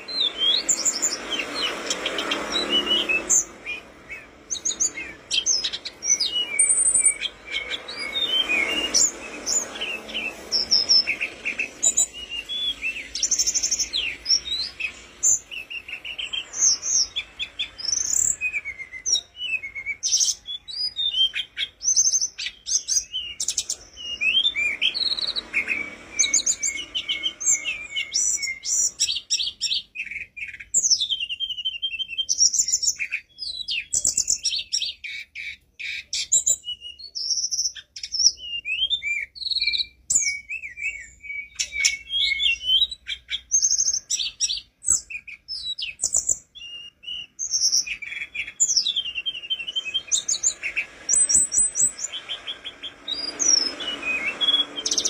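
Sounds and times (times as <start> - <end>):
bird singing whistles and trills: 0.0 - 55.0.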